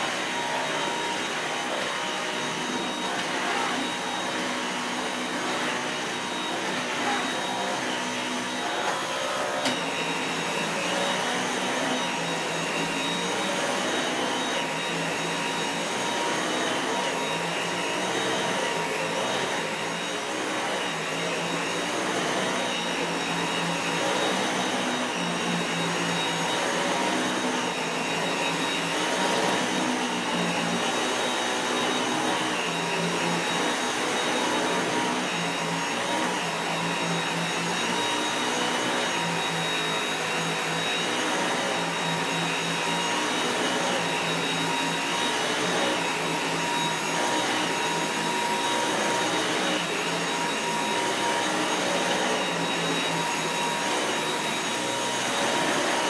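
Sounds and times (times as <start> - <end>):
cordless vacuum running: 0.0 - 56.0.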